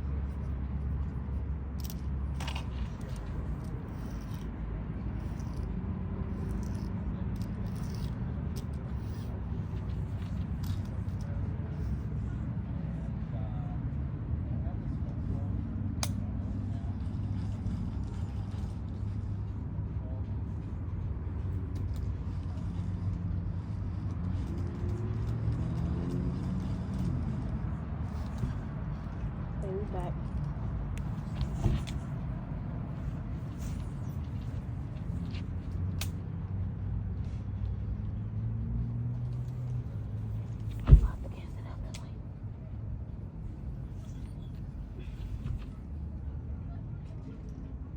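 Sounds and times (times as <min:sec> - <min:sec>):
low outdoor rumble: 0:00.0 - 0:47.9.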